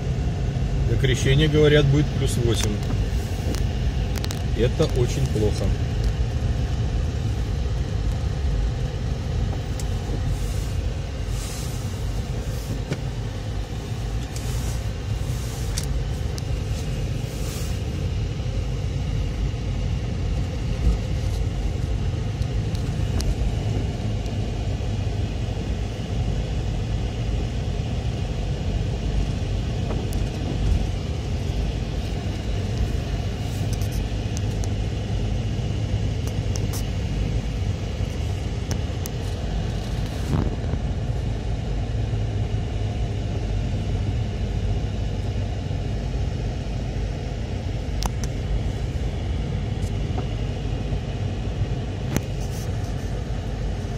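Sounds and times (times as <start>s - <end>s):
engine and tyres rumbling: 0.0s - 53.9s.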